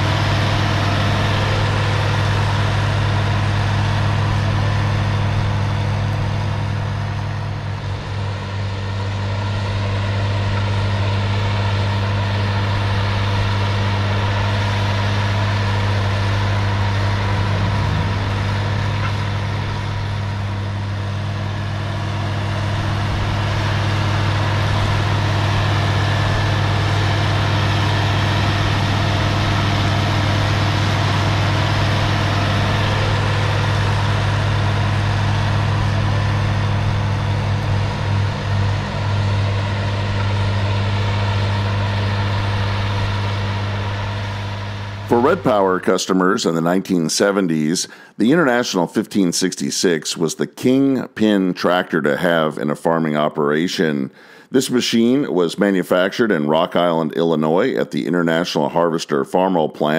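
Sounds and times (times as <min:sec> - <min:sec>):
tractor diesel engine drone: 0:00.0 - 0:59.9.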